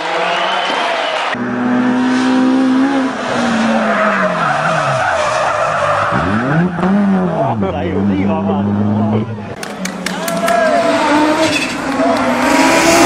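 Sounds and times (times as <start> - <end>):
rally car engine revving: 1.4 - 13.0.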